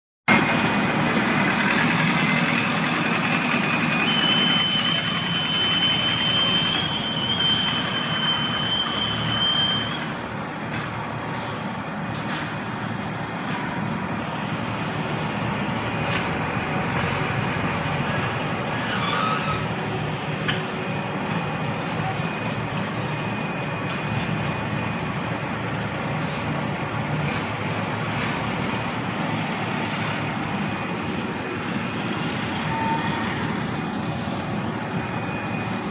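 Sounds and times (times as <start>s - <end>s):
engine-like mechanical noise: 0.3s - 35.9s.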